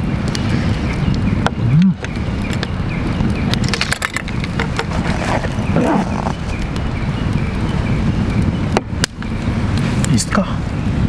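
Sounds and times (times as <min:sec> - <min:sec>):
birds chirping: 0:00.0 - 0:11.0
campfire crackling: 0:00.0 - 0:11.0.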